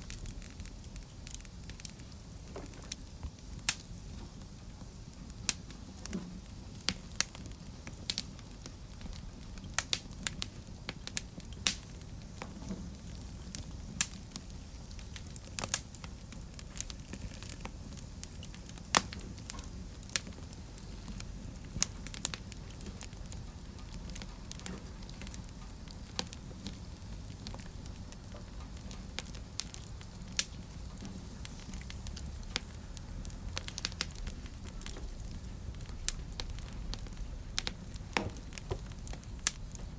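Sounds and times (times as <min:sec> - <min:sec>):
fire crackling and popping: 0:00.0 - 0:39.9
fire flame rumble: 0:00.0 - 0:39.9.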